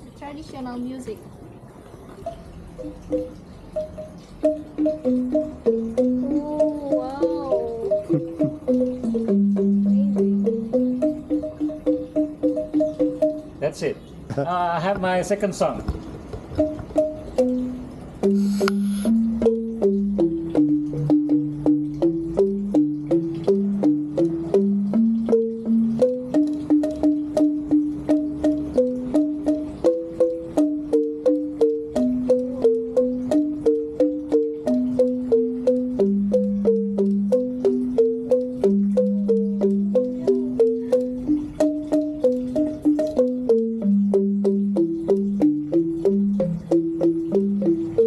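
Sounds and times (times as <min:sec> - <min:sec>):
bamboo xylophone melody: 0:02.0 - 0:48.0.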